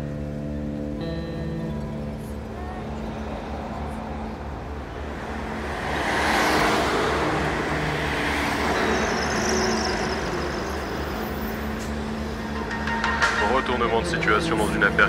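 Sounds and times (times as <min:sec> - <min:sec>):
low traffic hum: 0:00.0 - 0:15.0
van driving past: 0:00.0 - 0:15.0.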